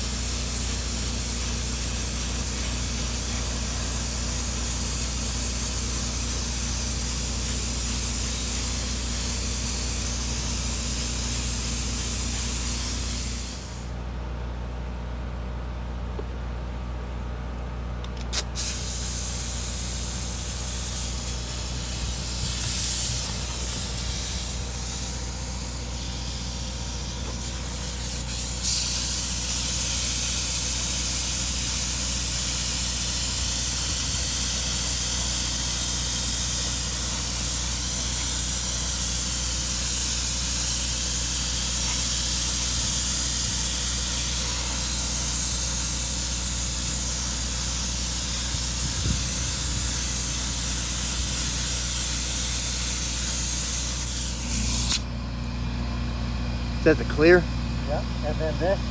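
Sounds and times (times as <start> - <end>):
spray gun trigger click: 0.0 - 13.8, 18.1 - 55.1
spray gun hissing: 0.0 - 13.9, 18.4 - 55.1
steady low hum: 0.0 - 14.6, 18.0 - 58.9.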